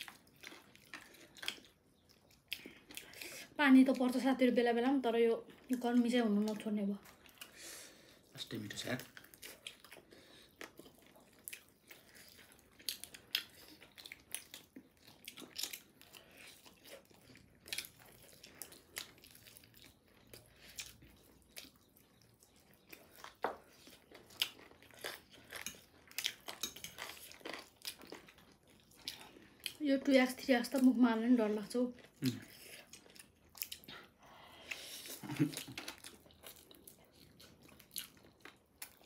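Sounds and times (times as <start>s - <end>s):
chewing and mouth smacks: 0.0s - 4.2s, 5.4s - 29.8s, 30.4s - 39.0s.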